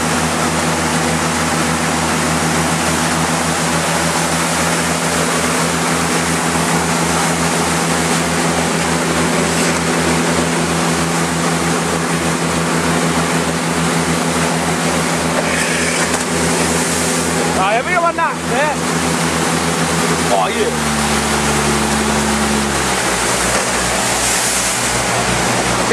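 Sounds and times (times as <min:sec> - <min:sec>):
churning wake: 0:00.0 - 0:25.9
motorboat engine throbbing: 0:00.0 - 0:25.9.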